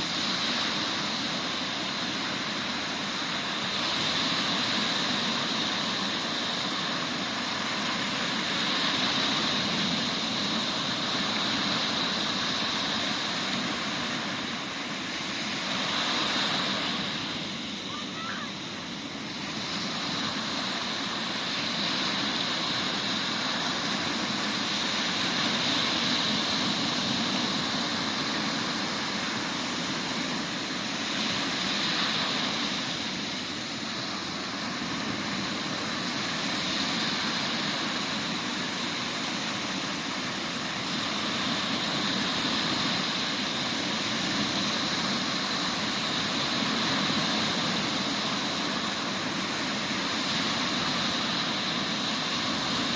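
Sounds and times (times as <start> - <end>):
sea waves breaking: 0.0 - 52.9.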